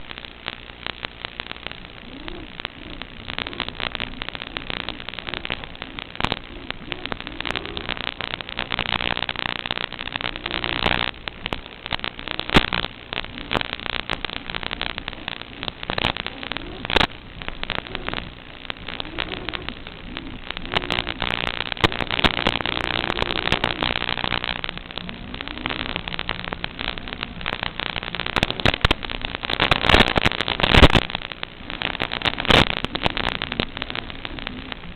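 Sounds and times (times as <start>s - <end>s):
crackling hissing static: 0.0s - 34.9s
sharp clicks: 0.0s - 34.9s.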